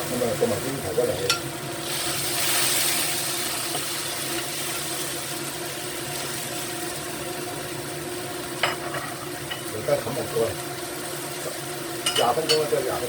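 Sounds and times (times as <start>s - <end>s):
liquid sizzling and bubbling: 0.0s - 13.0s.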